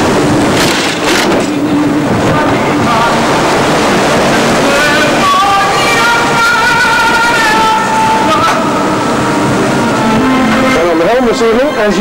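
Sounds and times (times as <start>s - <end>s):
heavy wind noise: 0.0s - 12.0s
rushing sea: 0.0s - 12.0s
wavering high tones: 1.6s - 12.0s.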